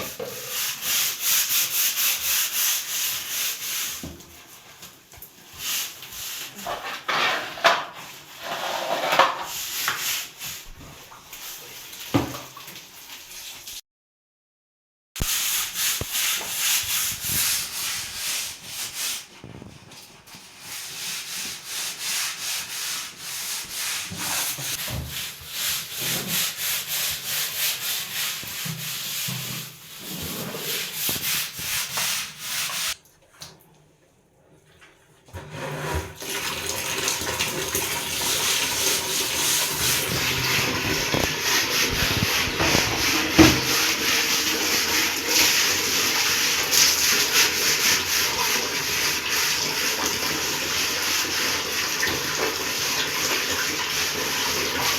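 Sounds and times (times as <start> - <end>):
brush scrubbing hard surface: 0.0 - 4.9, 5.5 - 12.0, 15.2 - 33.0, 35.6 - 54.9.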